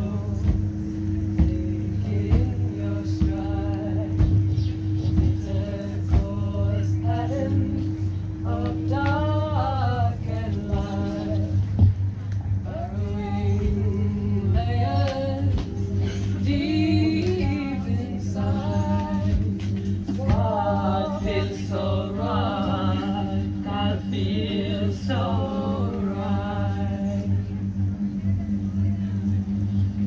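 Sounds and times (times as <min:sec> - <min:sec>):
people singing: 0:00.0 - 0:29.1
steady low drone: 0:00.0 - 0:30.0.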